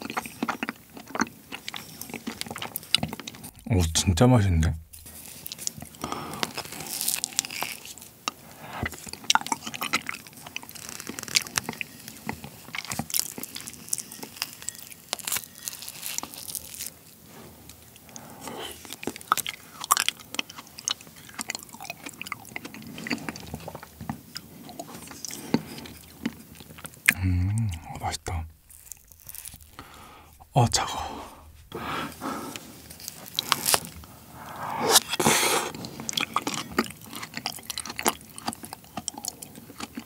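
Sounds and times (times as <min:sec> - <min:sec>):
chewing frozen fruit: 0:00.0 - 0:03.6, 0:05.0 - 0:40.0.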